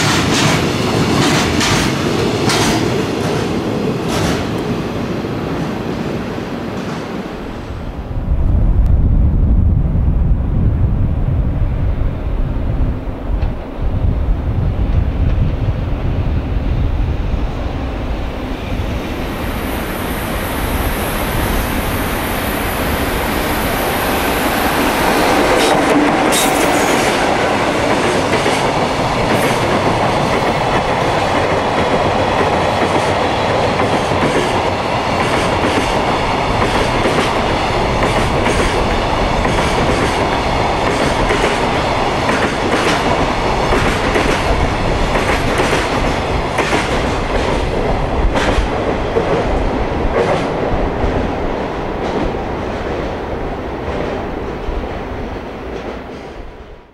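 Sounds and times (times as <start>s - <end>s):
freight train passing: 0.0s - 56.9s.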